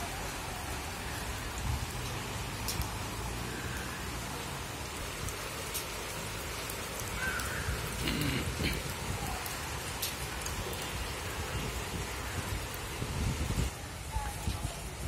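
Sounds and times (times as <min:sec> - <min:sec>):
rain on pavement: 0:00.0 - 0:15.0
raindrop ticks: 0:01.1 - 0:15.0.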